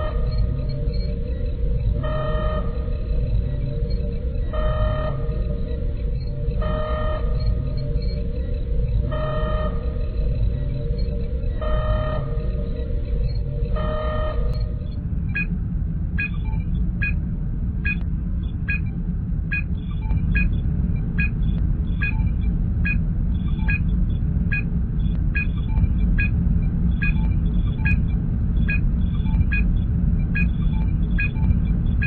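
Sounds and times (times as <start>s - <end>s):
electronic scanning beep: 0.0s - 15.5s, 16.2s - 17.2s, 19.5s - 23.9s, 25.4s - 26.4s, 27.0s - 31.8s
low engine rumble: 0.0s - 32.0s.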